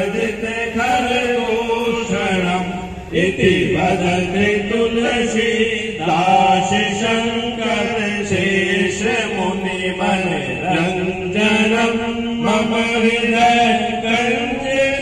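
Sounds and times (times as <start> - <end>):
group chanting devotional song: 0.0 - 15.0.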